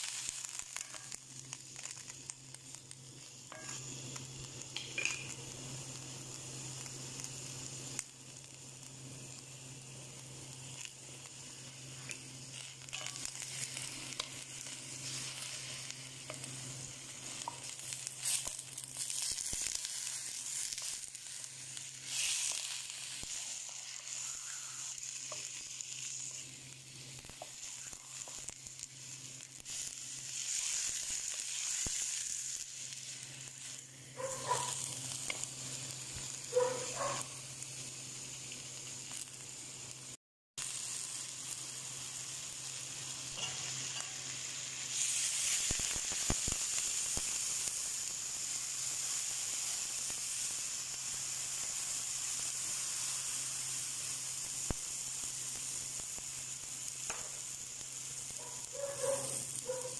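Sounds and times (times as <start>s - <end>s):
chicken sizzling in a wok: 0.0s - 59.9s.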